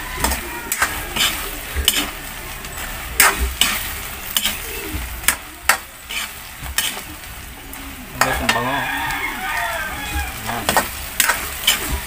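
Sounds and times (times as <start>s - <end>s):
shrimp sizzling in a wok: 0.0s - 12.0s
spatula scraping a pan: 0.1s - 9.6s, 10.3s - 12.0s.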